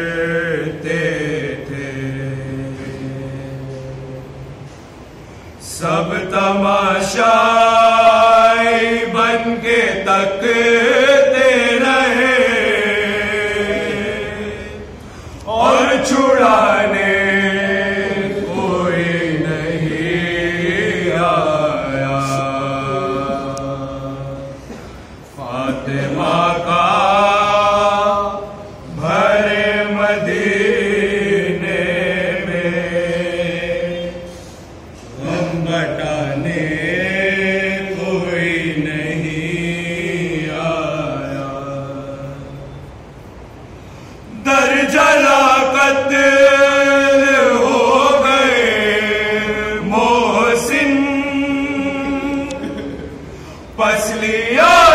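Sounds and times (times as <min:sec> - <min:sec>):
man chanting unaccompanied: 0:00.0 - 0:04.4, 0:05.6 - 0:24.7, 0:25.4 - 0:34.4, 0:35.0 - 0:42.8, 0:44.3 - 0:54.9.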